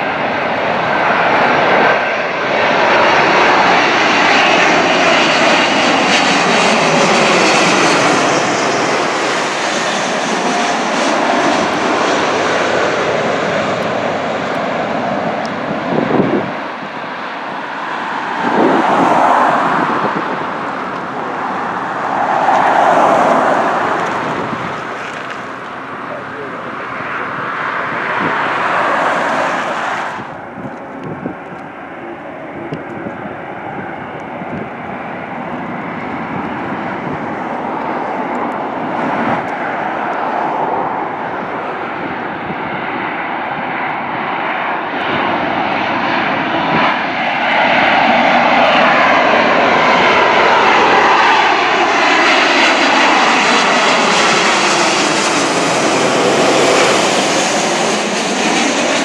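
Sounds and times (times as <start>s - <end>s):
jet airliner passing overhead: 0.0s - 59.0s
jet engines at takeoff power: 0.0s - 59.0s.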